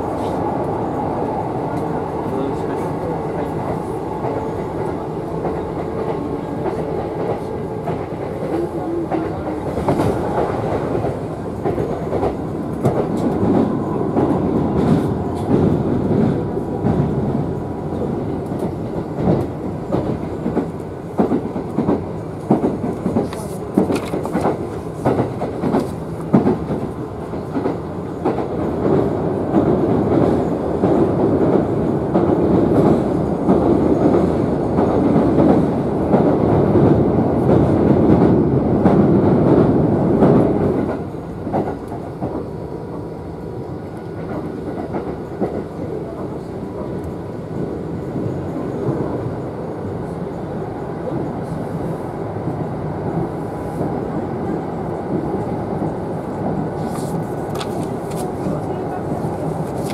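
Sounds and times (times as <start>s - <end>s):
train rumble inside carriage: 0.0s - 59.9s.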